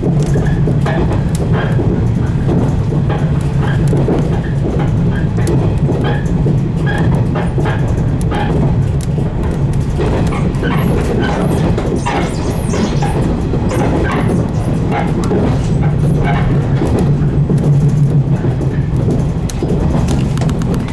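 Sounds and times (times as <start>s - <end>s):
train motors and wheels rumbling: 0.0s - 20.9s
wheels clicking on track: 0.0s - 20.9s.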